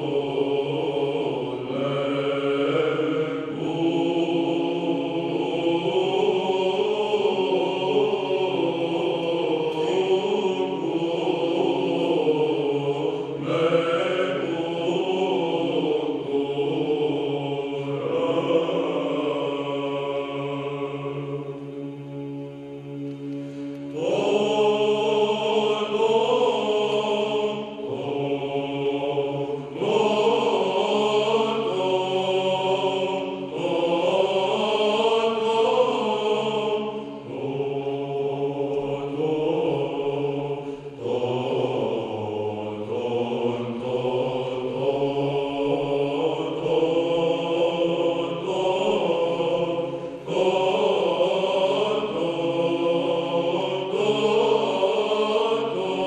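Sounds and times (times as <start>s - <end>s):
male choir chanting: 0.0s - 56.0s.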